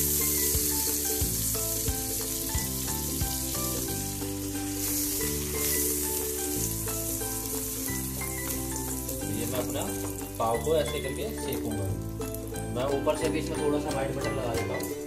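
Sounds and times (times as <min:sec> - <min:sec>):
butter sizzling on hot griddle: 0:00.0 - 0:14.1
background music: 0:00.0 - 0:15.0.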